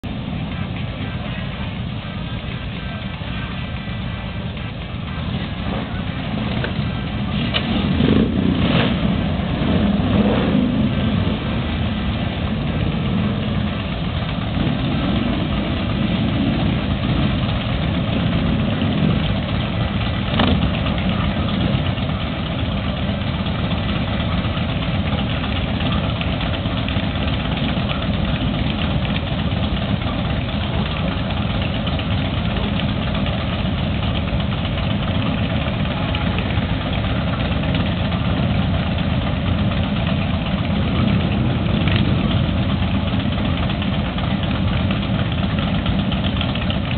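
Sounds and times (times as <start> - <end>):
motorcycles idling: 0.0 - 46.9.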